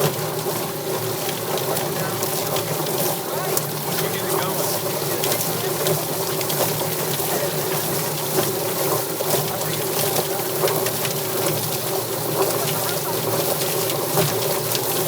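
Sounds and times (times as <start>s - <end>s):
forceful water spray: 0.0s - 15.0s.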